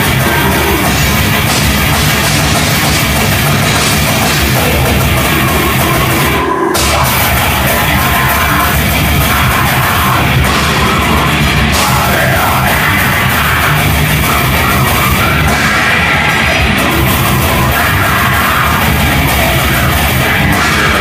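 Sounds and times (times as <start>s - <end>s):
heavy rock music: 0.0s - 21.0s.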